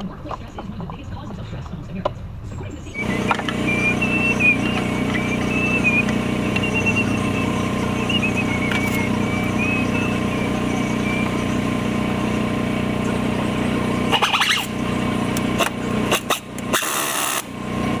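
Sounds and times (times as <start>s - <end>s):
car engine idling: 3.0s - 18.0s.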